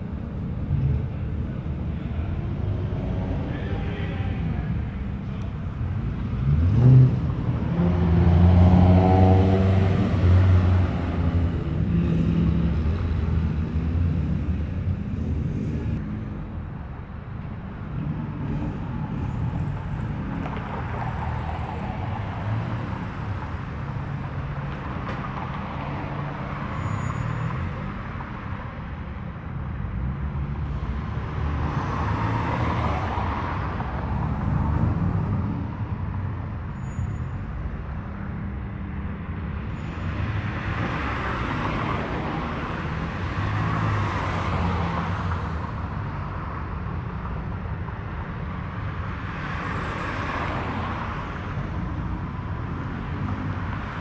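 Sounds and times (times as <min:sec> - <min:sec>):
cars driving past: 0:00.0 - 0:29.1, 0:29.7 - 0:54.0.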